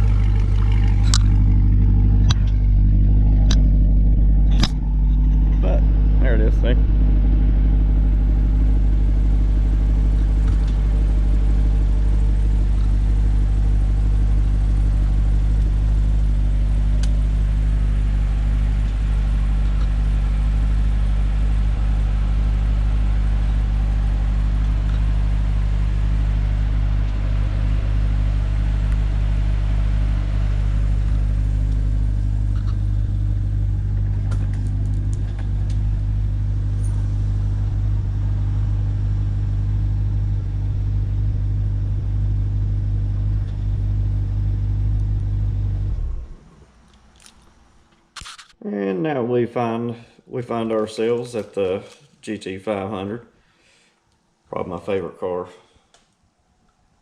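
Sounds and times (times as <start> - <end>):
car engine idling: 0.0 - 48.2.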